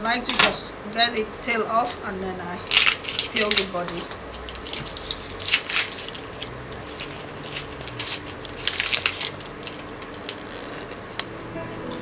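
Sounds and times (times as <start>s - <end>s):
onion skin crackling and rustling: 1.8s - 12.0s.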